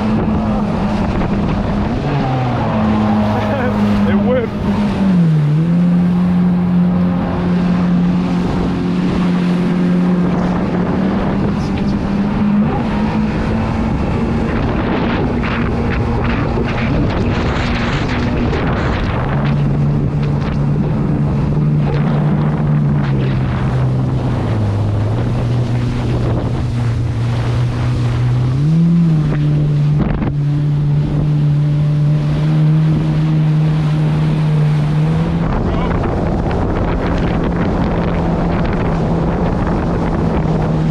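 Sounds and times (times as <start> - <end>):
jet ski engine running: 0.0 - 40.9
water rushing past: 0.0 - 40.9
wind buffeting microphone: 0.0 - 40.9.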